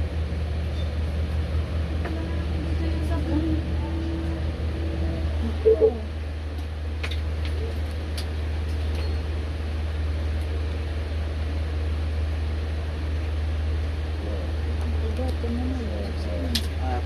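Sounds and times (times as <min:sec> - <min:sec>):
low hum of fan or motor: 0:00.0 - 0:17.0.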